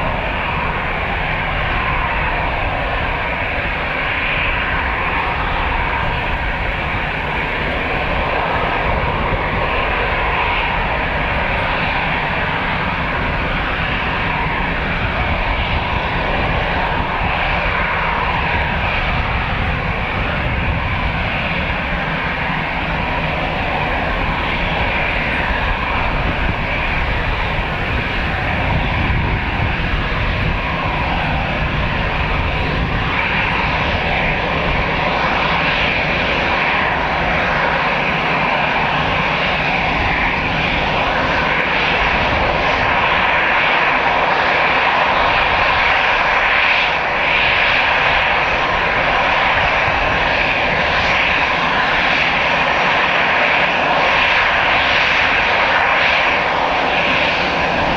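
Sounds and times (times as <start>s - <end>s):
jet engines whining: 0.0s - 57.9s.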